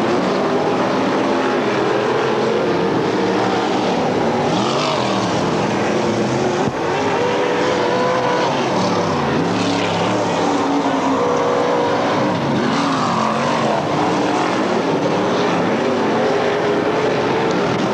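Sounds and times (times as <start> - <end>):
race car engines revving: 0.0 - 17.9.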